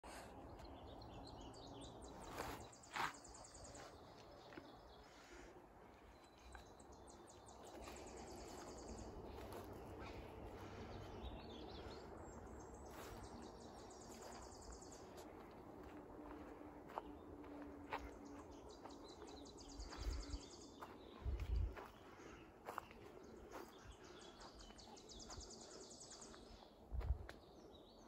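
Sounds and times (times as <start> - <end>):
songbirds trilling: 0.0 - 28.0
footsteps on dirt trail: 2.0 - 4.9, 6.2 - 12.0, 12.7 - 27.4.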